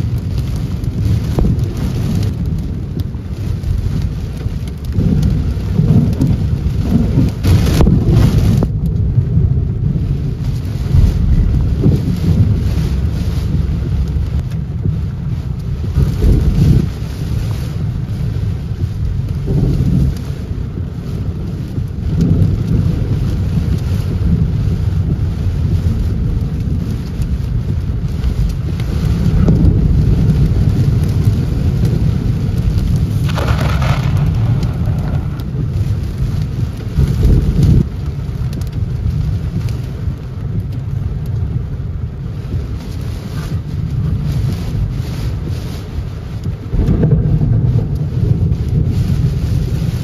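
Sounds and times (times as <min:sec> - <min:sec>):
rumbling thunder: 0:00.0 - 0:42.8, 0:46.4 - 0:50.0
heavy rain on car windshield: 0:00.0 - 0:50.0.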